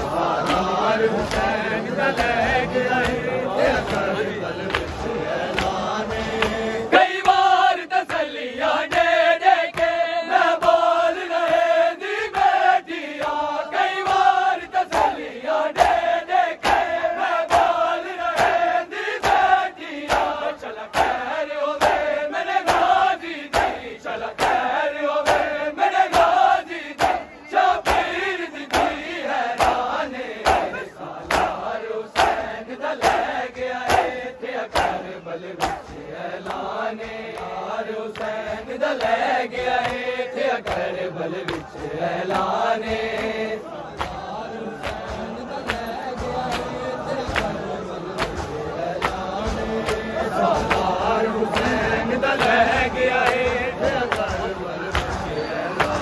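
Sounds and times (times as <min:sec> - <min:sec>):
men chanting together: 0:00.0 - 0:56.0.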